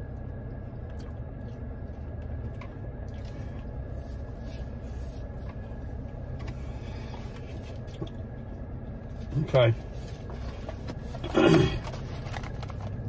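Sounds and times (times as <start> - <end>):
cabin fan running: 0.0 - 13.0
car engine idling: 0.0 - 13.0.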